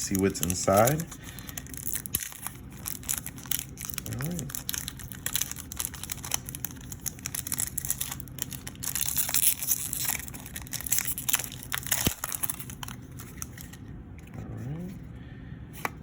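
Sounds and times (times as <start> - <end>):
foil wrapper crinkling and tearing: 0.0 - 13.8.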